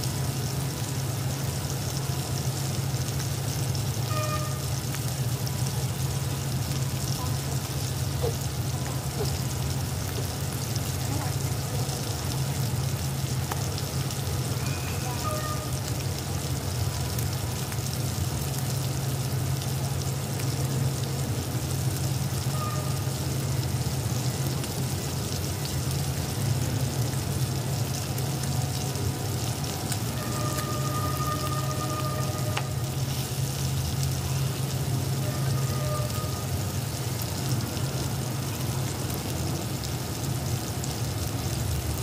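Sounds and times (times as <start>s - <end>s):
meat sizzling in hot oil: 0.0s - 42.0s.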